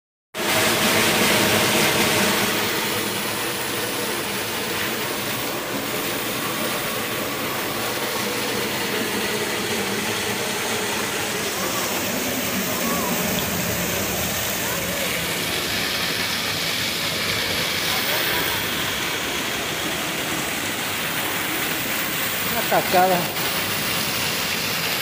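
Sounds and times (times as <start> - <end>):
waterfall rushing into pool: 0.4 - 25.0.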